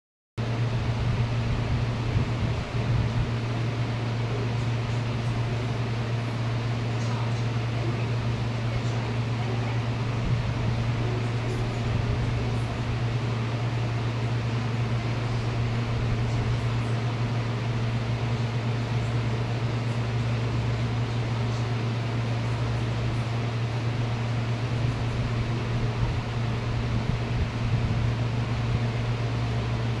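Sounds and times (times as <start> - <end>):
electric fan running: 0.4 - 30.0.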